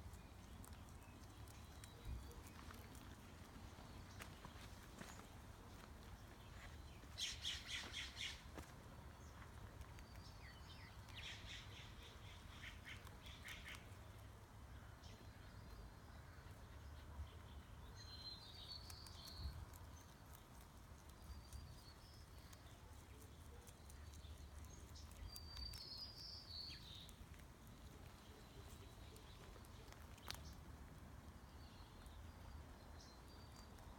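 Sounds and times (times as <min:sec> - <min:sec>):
rabbits crunching vegetables: 0:00.0 - 0:33.9.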